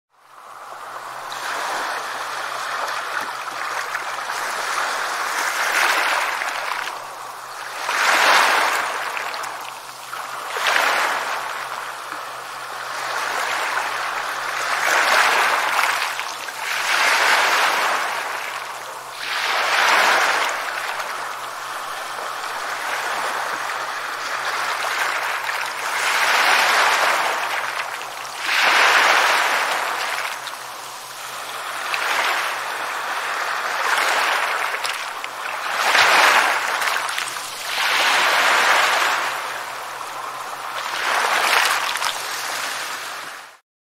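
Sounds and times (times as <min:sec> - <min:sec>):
sea waves washing up a beach: 0:00.2 - 0:43.6.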